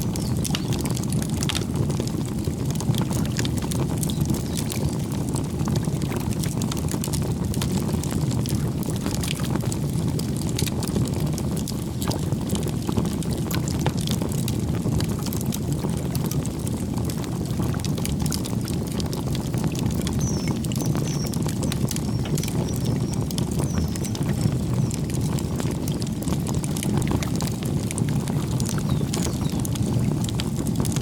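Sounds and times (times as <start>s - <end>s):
crackles and pops of burning wood: 0.0s - 31.0s
rush of flames: 5.3s - 31.0s.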